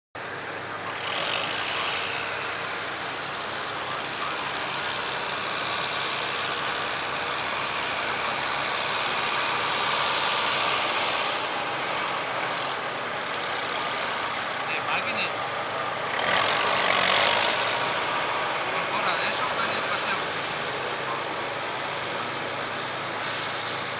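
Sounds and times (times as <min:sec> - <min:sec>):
forage harvester droning: 0:00.2 - 0:23.9.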